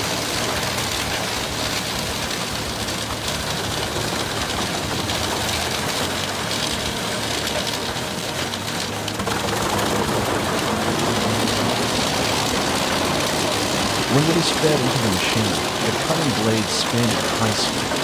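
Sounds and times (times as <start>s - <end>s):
wood being shredded: 0.0s - 18.0s
wood chipper engine drone: 0.0s - 18.0s.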